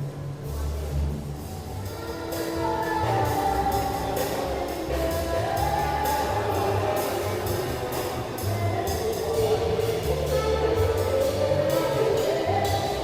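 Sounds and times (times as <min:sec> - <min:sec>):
music with steady beat: 0:00.0 - 0:13.0.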